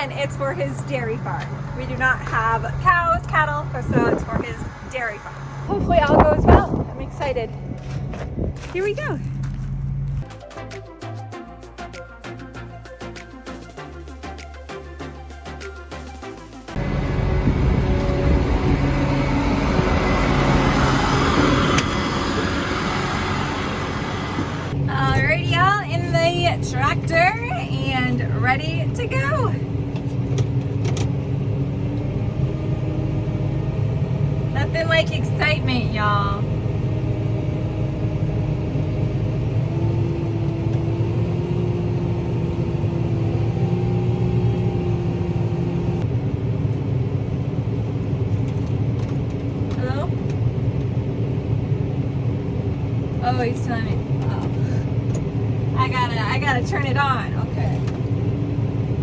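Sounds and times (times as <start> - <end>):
steady whine: 0.0 - 10.3, 16.1 - 59.0
tractor engine running: 0.0 - 59.0.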